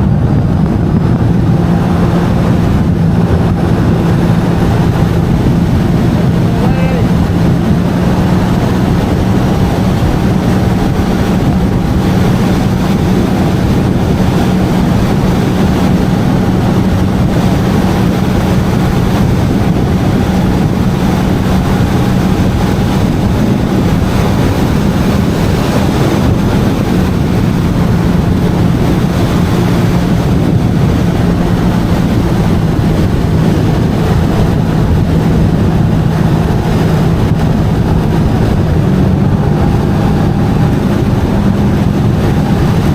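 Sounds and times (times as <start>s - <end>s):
jet ski engine running: 0.0s - 42.9s
water rushing: 0.0s - 42.9s.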